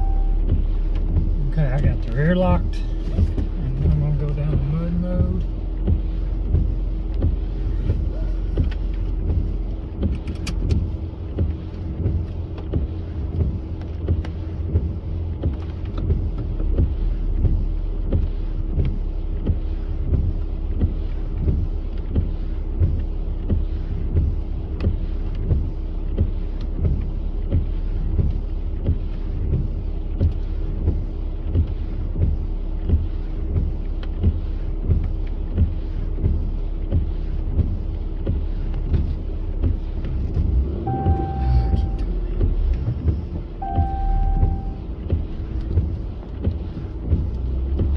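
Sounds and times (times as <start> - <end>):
vehicle engine drone in cabin: 0.0 - 47.9.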